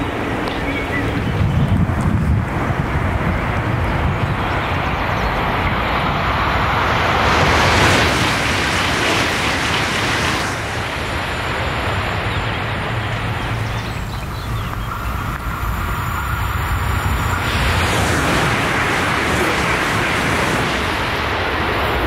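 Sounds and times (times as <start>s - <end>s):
high-speed train passing: 0.0s - 22.0s.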